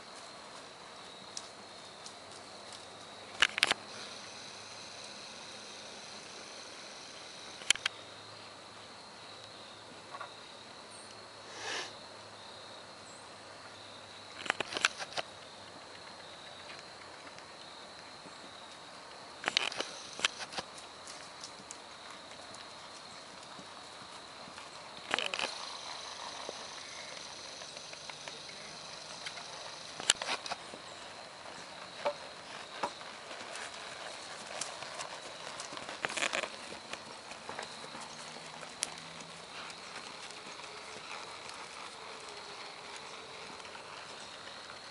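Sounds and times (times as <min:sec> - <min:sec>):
horse hooves on grass: 0:00.0 - 0:08.0, 0:13.6 - 0:44.9.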